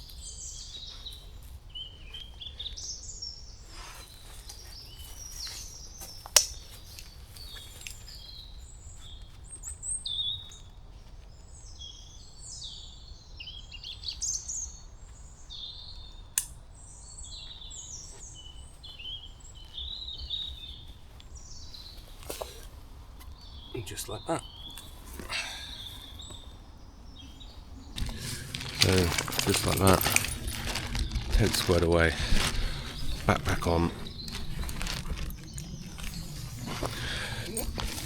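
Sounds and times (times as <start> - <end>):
woodland birds singing: 0.0 - 38.0.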